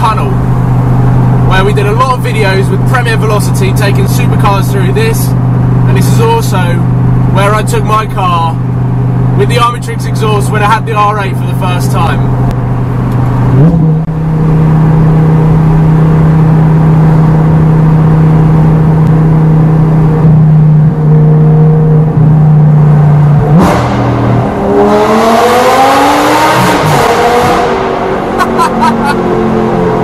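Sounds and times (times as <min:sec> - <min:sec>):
car engine droning and revving: 0:00.0 - 0:30.0.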